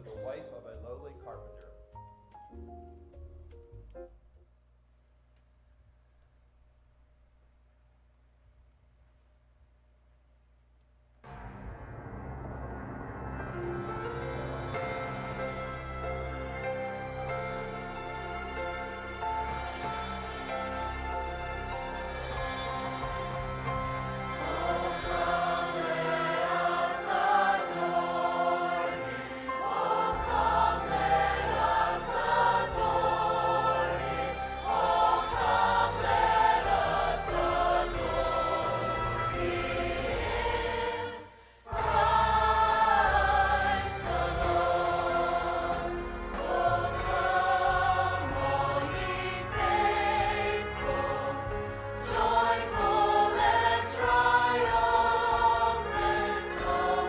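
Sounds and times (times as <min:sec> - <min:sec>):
church choir singing: 0:11.3 - 0:57.0
musical accompaniment: 0:11.3 - 0:57.0.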